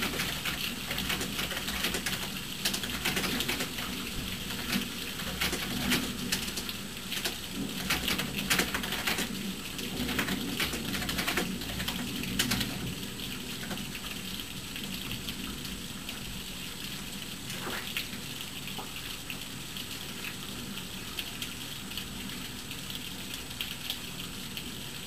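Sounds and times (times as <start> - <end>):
rain falling: 0.0 - 25.0
raindrops tapping close by: 0.0 - 25.0.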